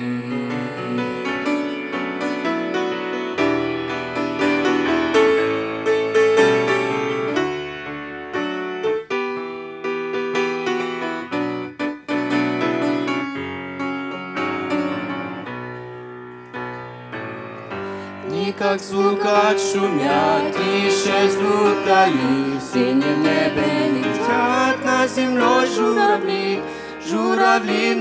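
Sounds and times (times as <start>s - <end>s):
grand piano playing: 0.0s - 28.0s.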